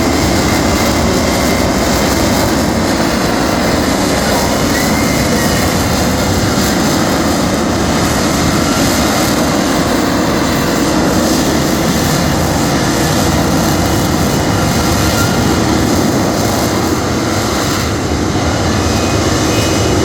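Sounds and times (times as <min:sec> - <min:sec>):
jet engine roaring: 0:00.0 - 0:20.0.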